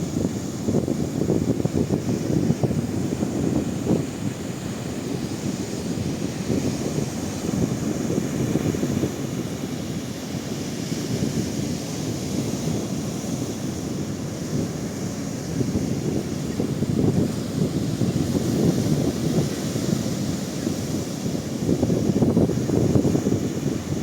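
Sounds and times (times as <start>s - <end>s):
sea waves washing: 0.0s - 24.0s
wind rumbling on microphone: 0.0s - 24.0s.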